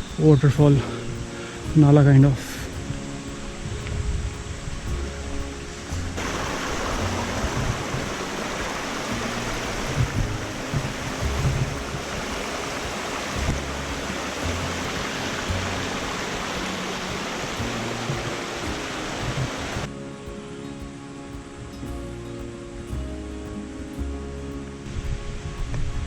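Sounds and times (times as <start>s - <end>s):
background music with bass: 0.0s - 26.0s
stream rushing and splashing: 0.0s - 26.0s.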